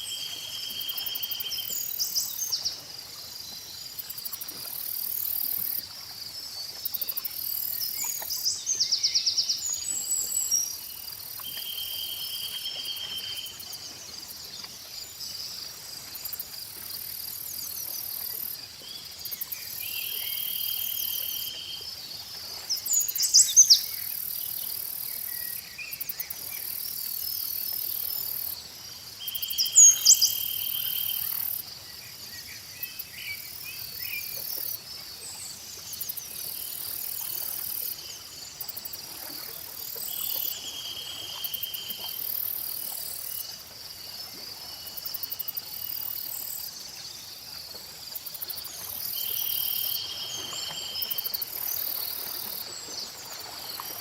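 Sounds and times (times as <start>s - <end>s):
insects trilling: 9.6s - 54.0s.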